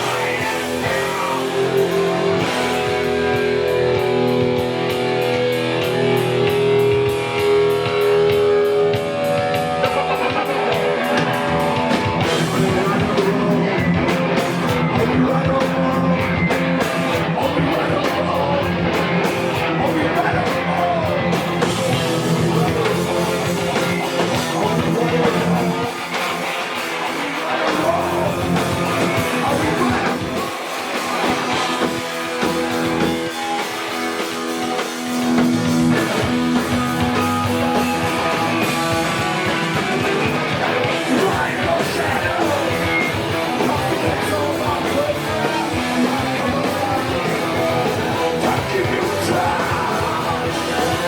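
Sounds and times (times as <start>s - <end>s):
punk band playing live: 0.0s - 51.0s.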